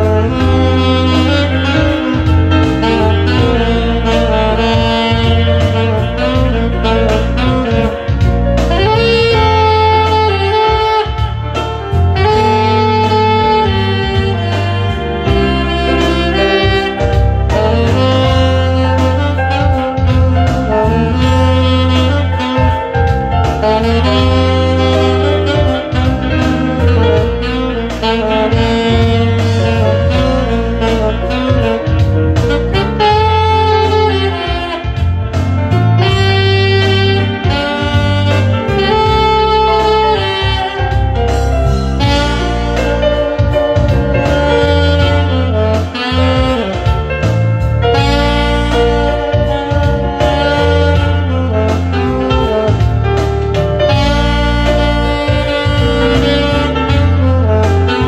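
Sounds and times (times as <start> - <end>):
alto saxophone melody: 0.0 - 58.0
backing track with bass and beat: 0.0 - 58.0
light drums: 0.0 - 58.0.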